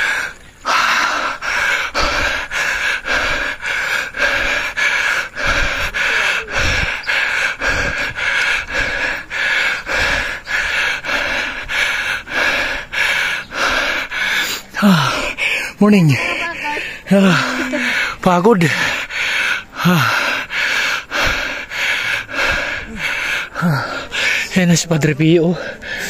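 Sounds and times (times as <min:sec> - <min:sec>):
person panting: 0:00.0 - 0:26.0.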